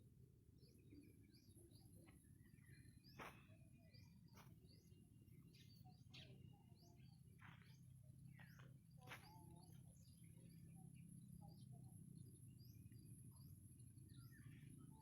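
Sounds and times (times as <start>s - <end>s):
faint bird chirps: 0.0s - 15.0s
low steady hum: 0.0s - 15.0s.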